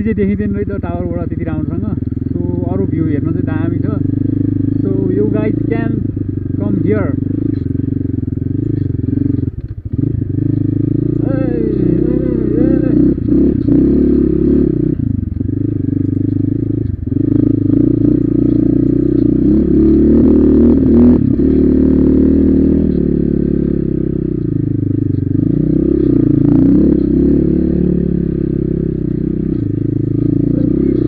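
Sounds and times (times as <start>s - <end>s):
knocks and rattles on rough track: 0.0s - 31.0s
motorcycle engine revving: 0.0s - 31.0s.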